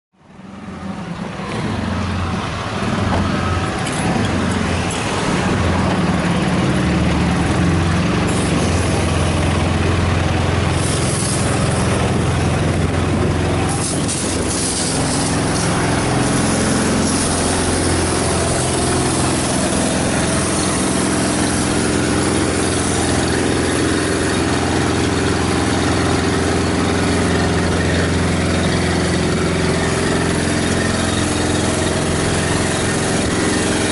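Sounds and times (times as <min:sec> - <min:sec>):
truck engine idling: 0:00.2 - 0:33.9
hose spraying water: 0:02.8 - 0:33.9.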